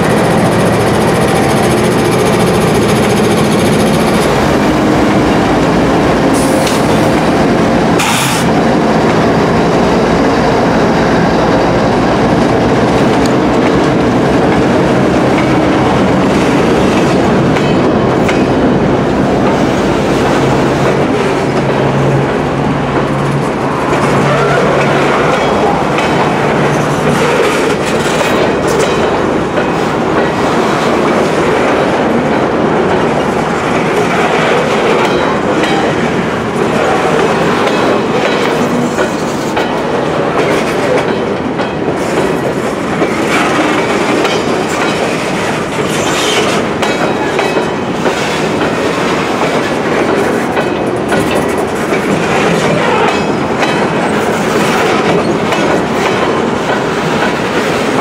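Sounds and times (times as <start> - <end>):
diesel locomotive passing: 0.0 - 58.0
train wheels clacking on rails: 0.0 - 58.0.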